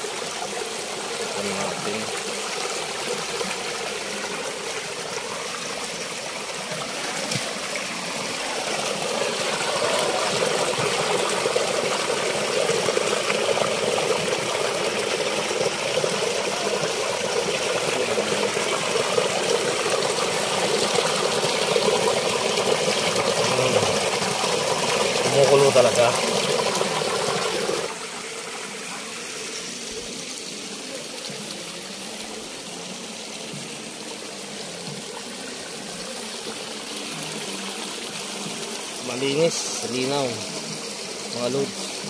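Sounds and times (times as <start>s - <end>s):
water splashing over rocks: 0.0s - 42.0s.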